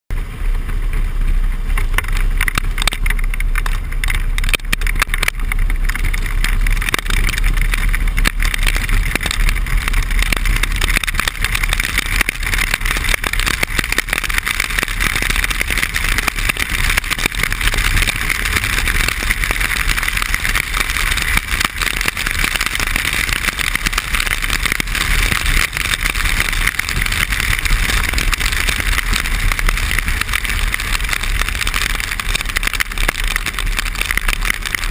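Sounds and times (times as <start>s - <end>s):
motorcycle engine running: 0.1s - 34.9s
rain and wet road spray: 0.1s - 34.9s
wind noise on microphone: 0.1s - 34.9s.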